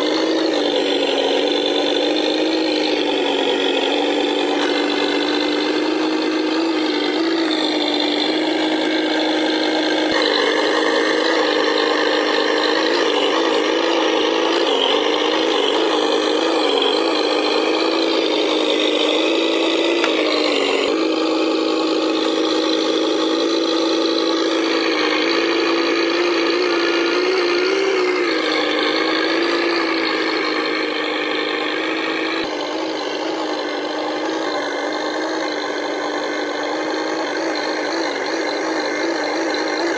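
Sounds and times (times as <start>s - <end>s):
simulated engine through small speaker: 0.0s - 39.9s.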